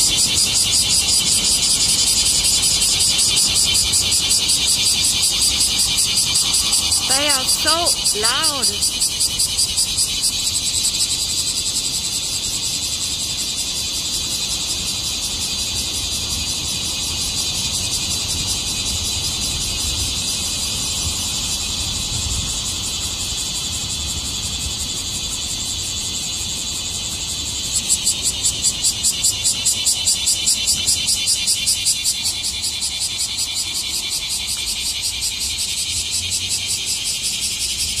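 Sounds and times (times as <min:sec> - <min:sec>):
cicadas buzzing: 0:00.0 - 0:38.0.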